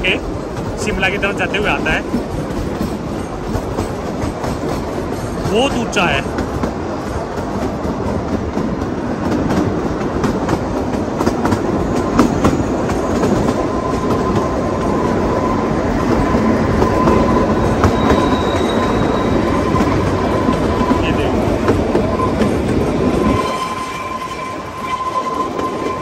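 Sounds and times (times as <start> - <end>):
train coaches rumbling: 0.0 - 26.0.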